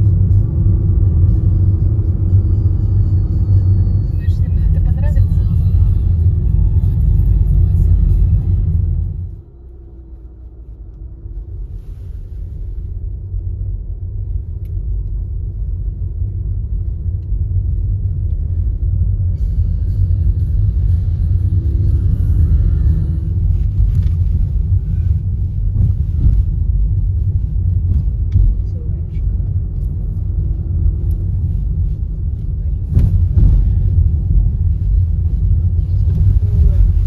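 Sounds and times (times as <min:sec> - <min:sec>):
car cabin road rumble: 0:00.0 - 0:37.0.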